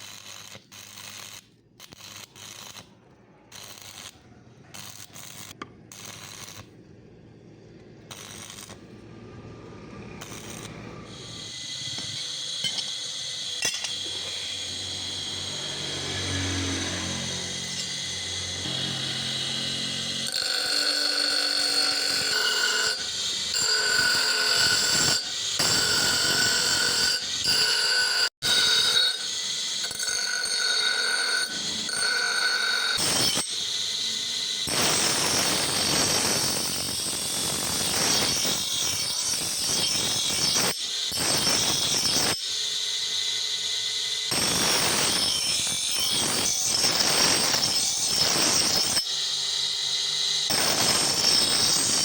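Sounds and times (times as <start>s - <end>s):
power tools whining on steel: 1.9s - 52.0s.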